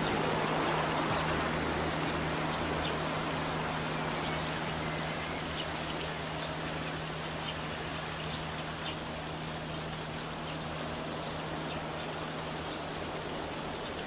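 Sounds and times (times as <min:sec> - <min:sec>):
low steady hum: 0:00.0 - 0:14.0
outdoor background hiss: 0:00.0 - 0:14.0.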